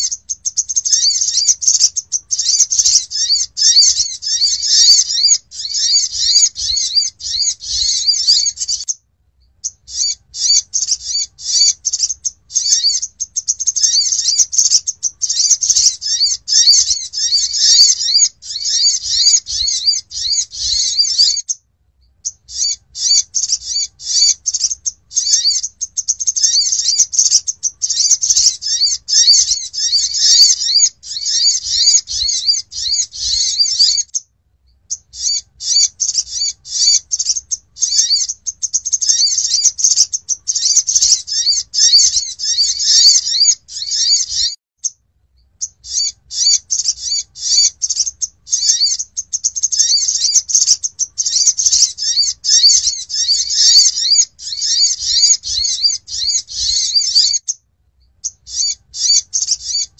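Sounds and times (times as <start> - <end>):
bird twittering chirps: 0.0 - 59.9.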